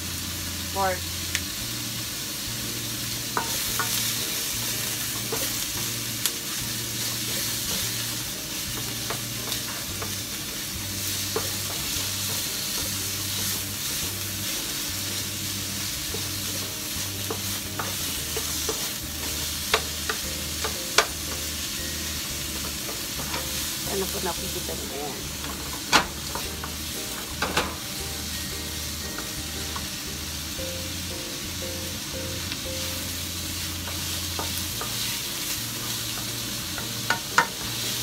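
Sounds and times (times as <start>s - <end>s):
meat and onion sizzling in wok: 0.0s - 38.0s.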